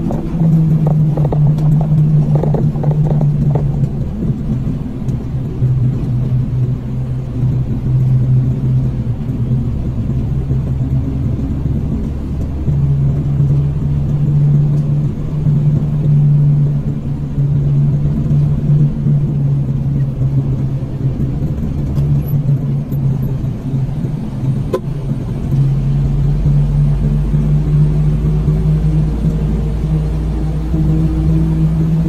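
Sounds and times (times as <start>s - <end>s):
road rumble: 0.0s - 32.0s
vehicle engine drone: 0.0s - 32.0s.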